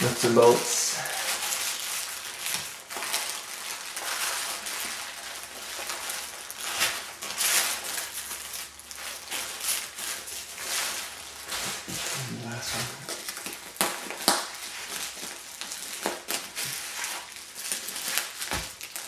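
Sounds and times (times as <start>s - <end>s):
plastic bags and paper crinkling: 0.0s - 19.0s.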